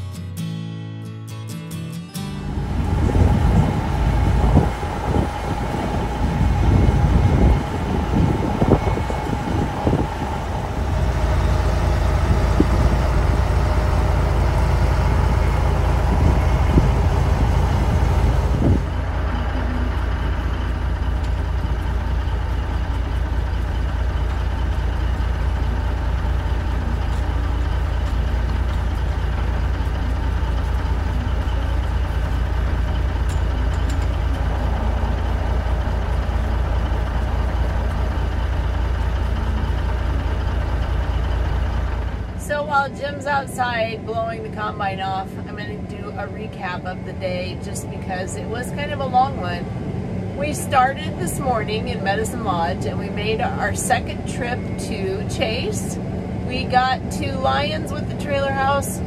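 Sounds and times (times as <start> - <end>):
diesel engines running: 1.9 - 59.0.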